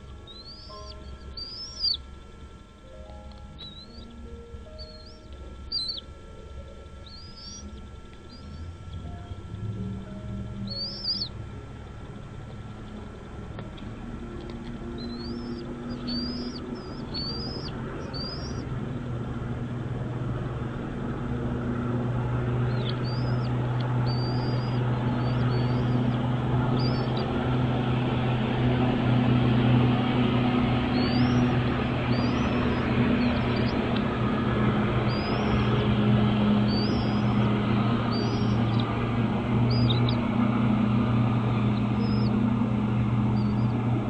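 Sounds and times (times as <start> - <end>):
birds chirping: 0.0 - 44.0
low engine hum: 0.0 - 44.0.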